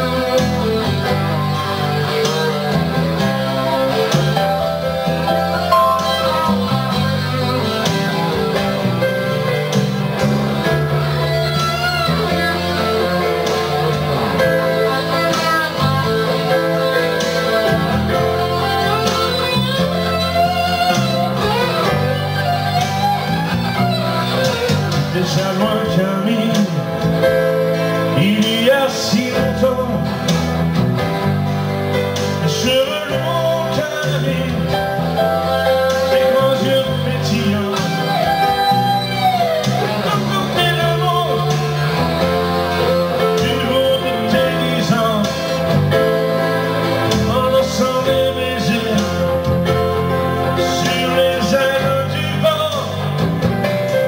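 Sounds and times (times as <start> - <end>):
electric guitar: 0.0 - 54.0
keyboard: 0.0 - 54.0.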